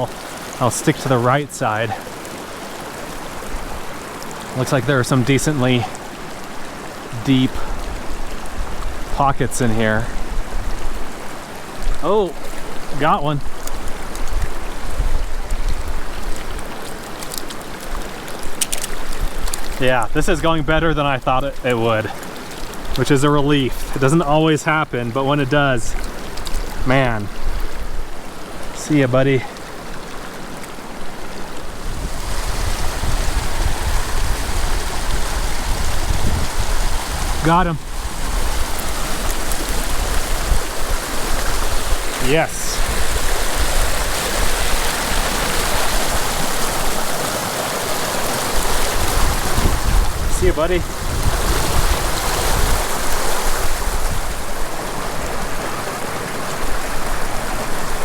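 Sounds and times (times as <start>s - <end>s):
creek rushing: 0.0s - 58.0s.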